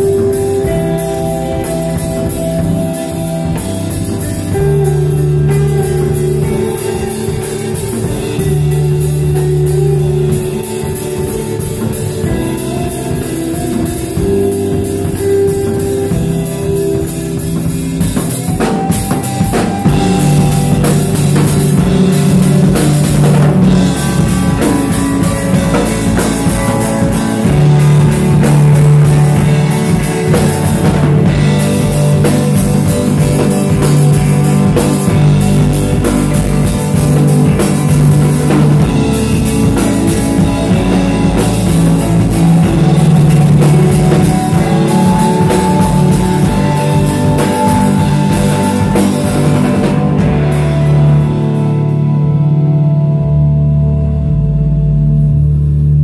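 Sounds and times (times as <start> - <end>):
drum kit beat: 0.0 - 52.6
electric guitar notes: 0.0 - 56.0.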